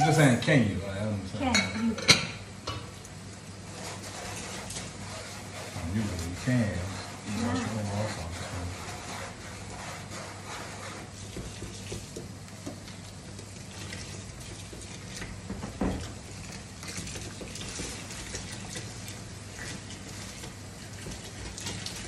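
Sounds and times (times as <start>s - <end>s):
dishes being washed in sink: 3.7s - 22.0s.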